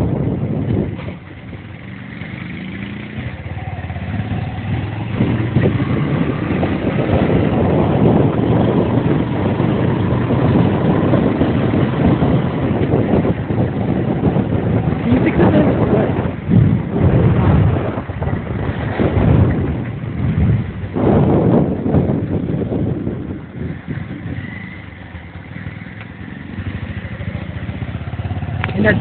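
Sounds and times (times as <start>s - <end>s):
vehicle engine accelerating: 0.0s - 29.0s
wind buffeting microphone: 0.0s - 29.0s.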